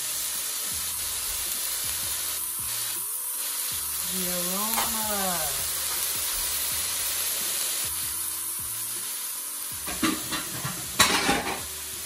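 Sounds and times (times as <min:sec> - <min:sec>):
soft background music: 0:00.0 - 0:12.0
vegetables sizzling in pot: 0:00.0 - 0:12.0.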